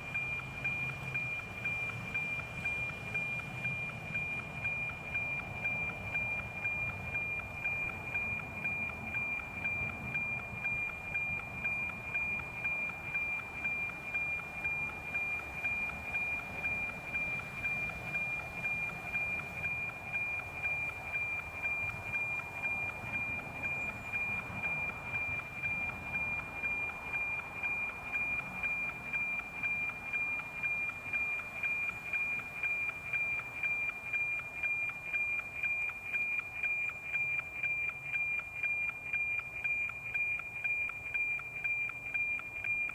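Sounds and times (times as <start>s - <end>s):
pulsing high tone: 0.0s - 42.9s.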